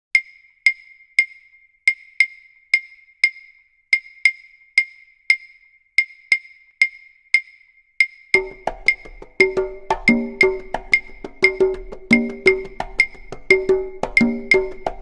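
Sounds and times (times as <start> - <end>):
wood-block clicks: 0.1 - 15.0.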